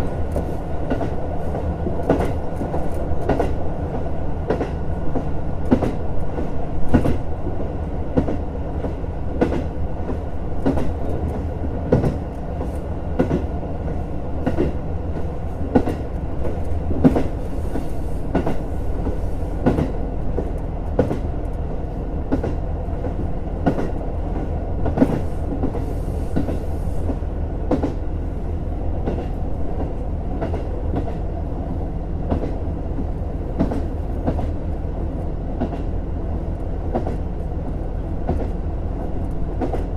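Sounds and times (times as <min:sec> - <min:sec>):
wheels clicking over rail joints: 0:00.0 - 0:28.1, 0:32.2 - 0:39.9
diesel railcar engine drone: 0:00.0 - 0:39.9.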